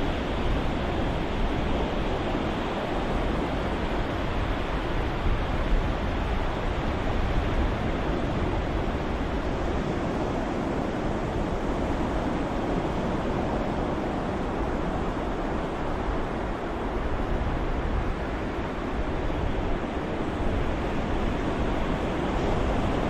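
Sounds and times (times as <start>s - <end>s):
ocean waves surf: 0.0s - 23.0s.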